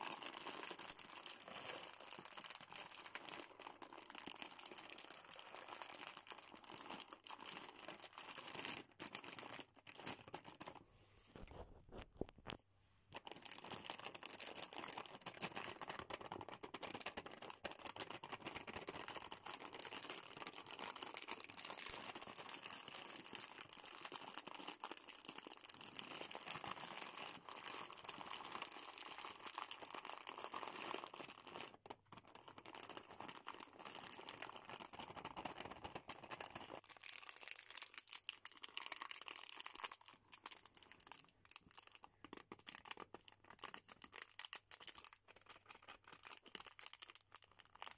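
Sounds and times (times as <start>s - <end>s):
plastic packaging crinkling: 0.0s - 10.8s, 13.2s - 47.9s
wrapper crackling: 0.0s - 10.8s, 13.2s - 47.9s.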